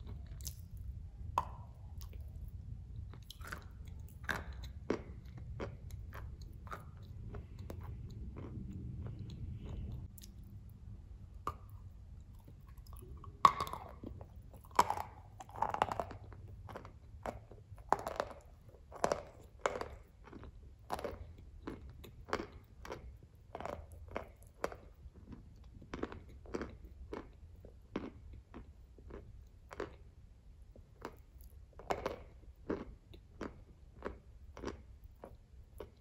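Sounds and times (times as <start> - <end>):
crunchy chewing: 0.0 - 10.7, 11.4 - 30.1, 30.7 - 36.0.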